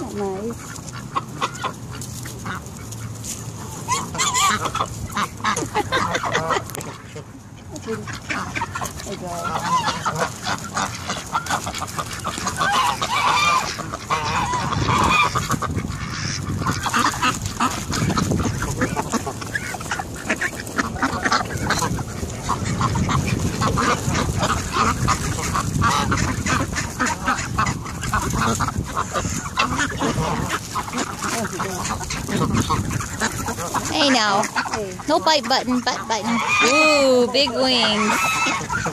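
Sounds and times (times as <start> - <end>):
ducks calling: 0.0 - 38.9
geese honking: 0.0 - 38.9.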